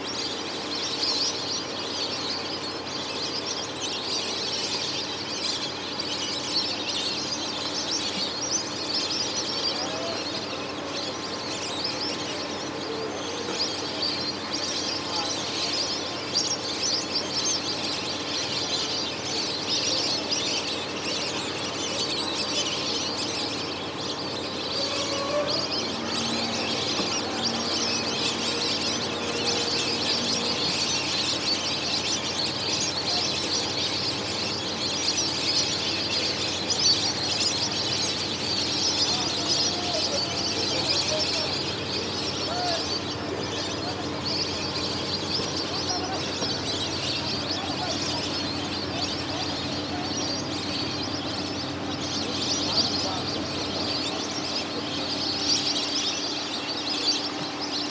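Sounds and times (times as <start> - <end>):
flock of birds chirping: 0.0 - 57.9.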